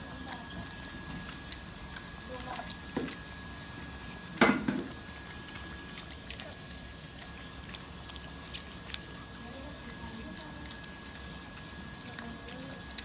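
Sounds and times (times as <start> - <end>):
puppy lapping milk: 0.0 - 13.0.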